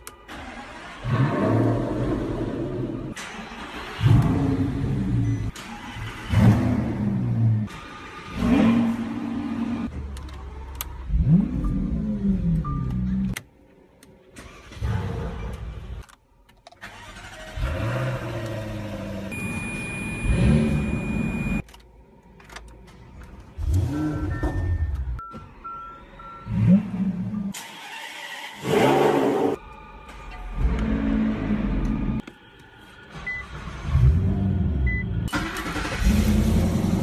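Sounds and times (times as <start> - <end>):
car engines starting and revving: 0.0 - 37.0.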